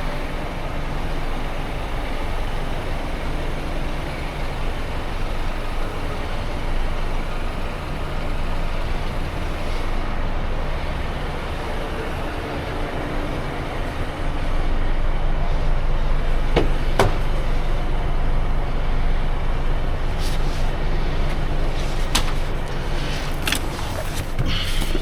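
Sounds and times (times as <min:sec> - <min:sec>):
car engine running: 0:00.0 - 0:25.0
road noise: 0:00.0 - 0:25.0.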